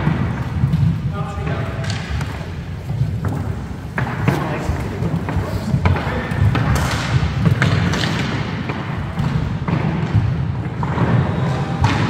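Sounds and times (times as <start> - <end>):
hockey sticks clacking: 0.0 - 12.0
skate wheels rumbling on wood: 0.0 - 12.0.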